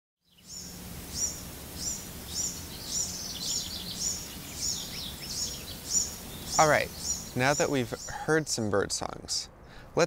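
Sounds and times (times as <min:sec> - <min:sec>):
bird chirping: 0:00.2 - 0:09.9
low background hum: 0:00.3 - 0:10.0.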